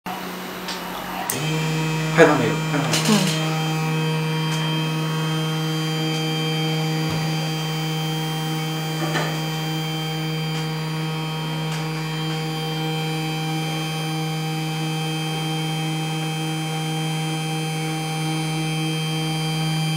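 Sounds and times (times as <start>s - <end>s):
stepper motors humming: 0.1s - 19.9s.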